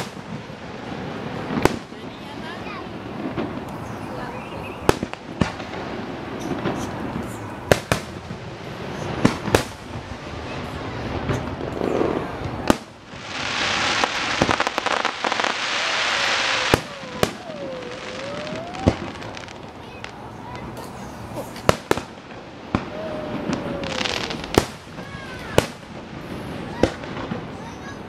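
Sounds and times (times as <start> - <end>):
fireworks booming: 0.0 - 28.0
fireworks crackling: 0.0 - 28.0.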